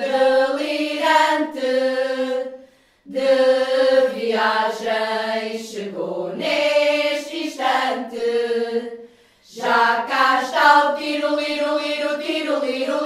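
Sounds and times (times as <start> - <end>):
women's choir singing: 0.0 - 13.0.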